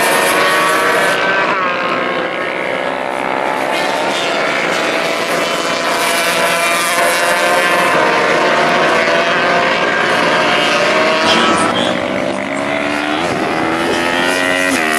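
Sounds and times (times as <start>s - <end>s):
racing motorcycles revving: 0.0s - 14.9s.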